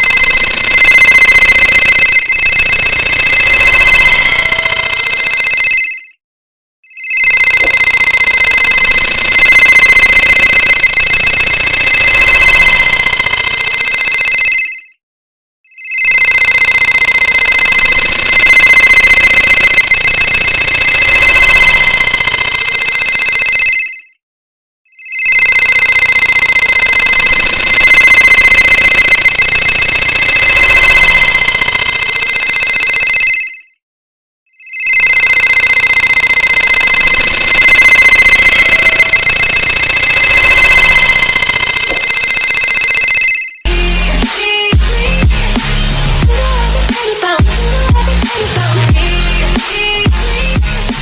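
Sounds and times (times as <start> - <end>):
dense phone ringtone ringing: 0.0 - 6.2, 6.8 - 15.0, 15.7 - 24.2, 24.9 - 33.8, 34.5 - 44.9.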